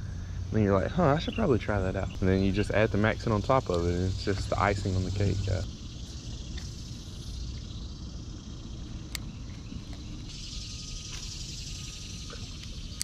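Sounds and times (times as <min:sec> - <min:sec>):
high insect drone: 0:00.0 - 0:13.0
low rumble: 0:00.0 - 0:13.0.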